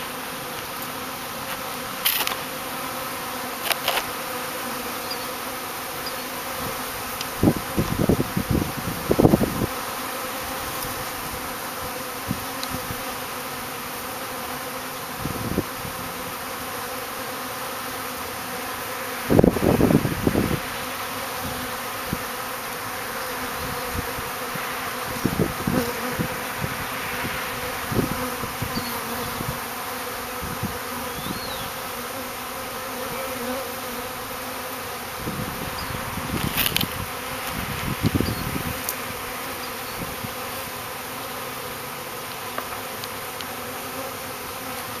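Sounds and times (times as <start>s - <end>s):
honey bees buzzing: 0.0s - 45.0s.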